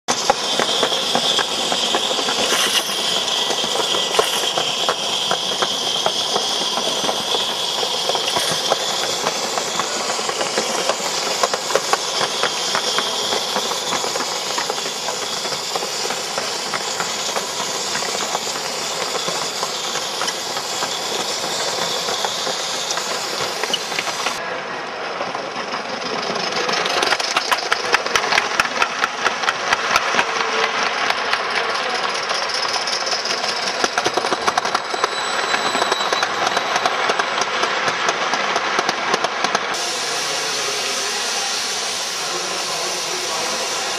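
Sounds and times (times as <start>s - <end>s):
steam hissing: 0.1s - 24.4s, 25.8s - 43.9s.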